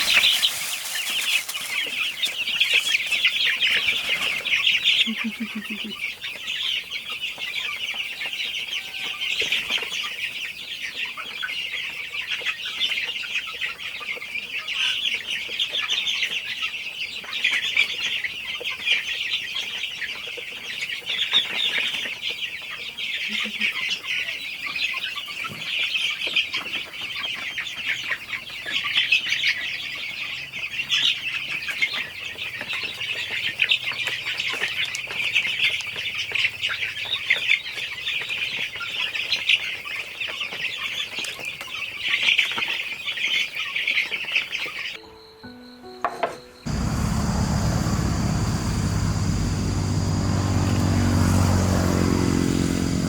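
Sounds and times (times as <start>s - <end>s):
chicks peeping: 0.0s - 45.0s, 46.6s - 53.0s.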